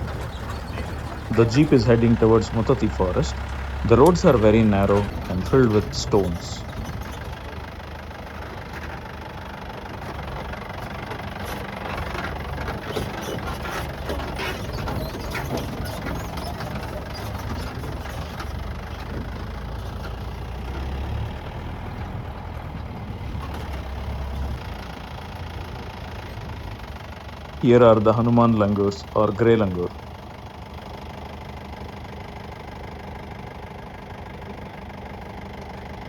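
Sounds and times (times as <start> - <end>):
vehicle engine running slowly: 0.0 - 36.0
vehicle rattling over stones: 0.0 - 36.0.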